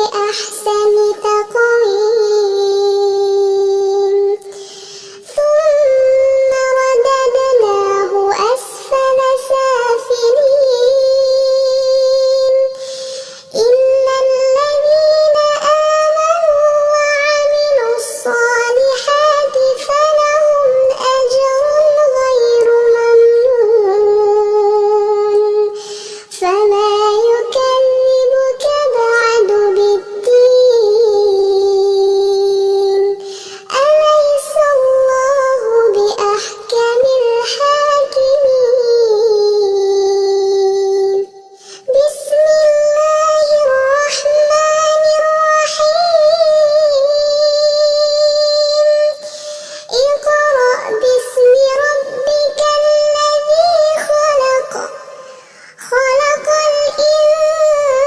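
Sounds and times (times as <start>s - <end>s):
high voice melodic recitation: 0.0s - 58.0s.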